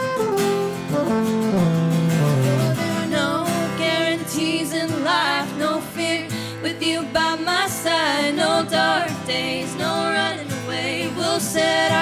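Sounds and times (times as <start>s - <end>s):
acoustic guitar accompaniment: 0.0s - 12.0s.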